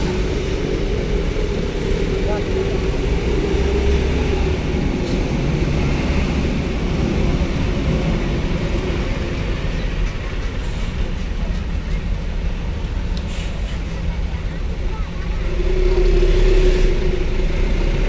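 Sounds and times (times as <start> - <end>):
heavy truck engines rumbling: 0.0 - 18.0.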